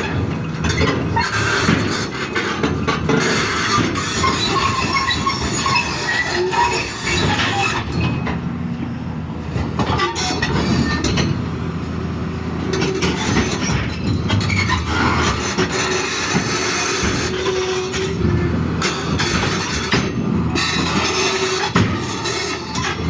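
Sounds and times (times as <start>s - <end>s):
metallic squeals and clanks: 0.0s - 8.4s, 9.7s - 11.4s, 12.6s - 23.0s
excavator engine rumble: 0.0s - 23.0s.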